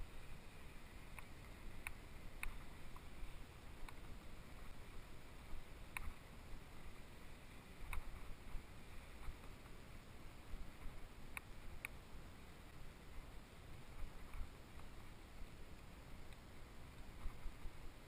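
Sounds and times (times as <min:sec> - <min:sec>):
wind and tyre rumble: 0:00.0 - 0:18.0.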